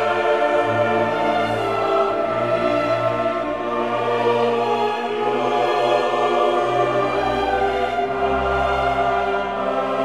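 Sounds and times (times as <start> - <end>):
choir and orchestra sustained notes: 0.0 - 10.0.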